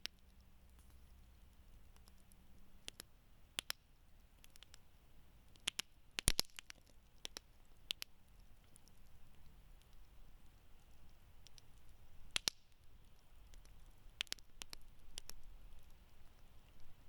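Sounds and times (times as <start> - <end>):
faint low hiss: 0.0 - 17.0
wood fire crackling: 0.2 - 17.0.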